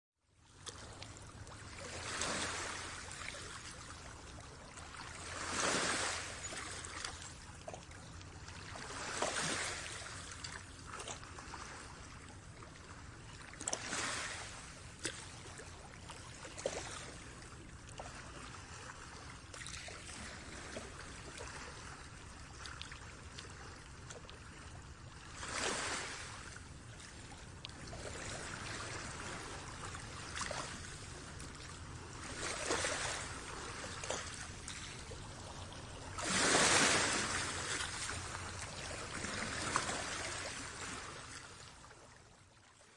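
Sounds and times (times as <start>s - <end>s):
shallow water trickling: 0.5s - 42.8s.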